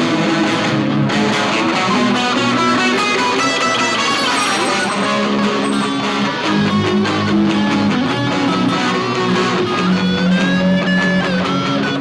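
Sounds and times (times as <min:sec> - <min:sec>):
lead guitar line: 0:00.0 - 0:12.0
strummed guitar chords: 0:00.0 - 0:12.0.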